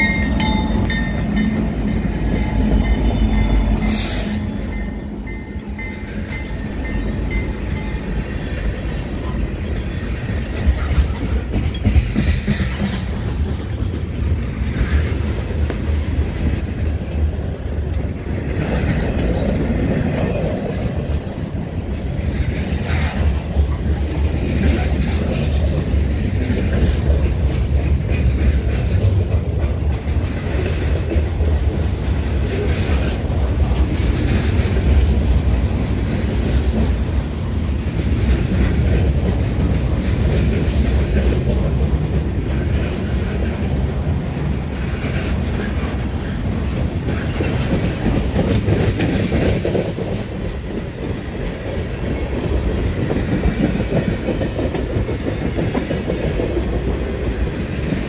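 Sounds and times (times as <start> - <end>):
freight train rumbling past: 0.0 - 58.0
wheels clicking over rail joints: 4.7 - 58.0.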